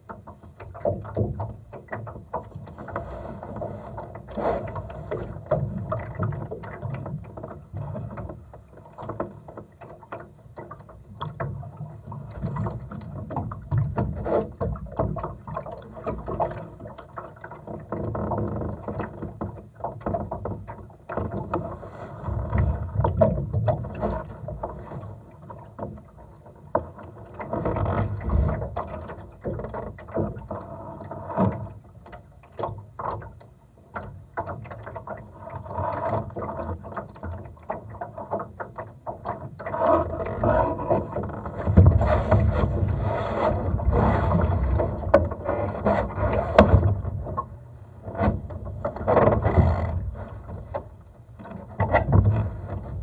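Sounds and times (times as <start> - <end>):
water lapping against hull: 0.0 - 53.0.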